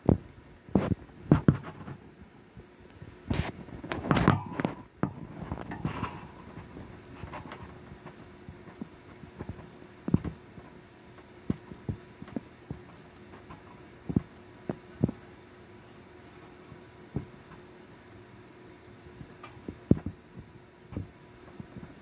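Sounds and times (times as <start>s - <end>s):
guinea pig nibbling hay: 0.0s - 22.0s
guinea pig rustling in bedding: 0.0s - 22.0s.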